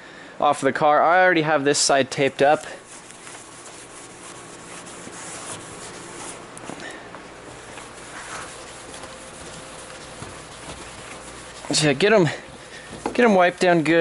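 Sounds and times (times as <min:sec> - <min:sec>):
paper towel wiping plastic: 0:02.2 - 0:14.0.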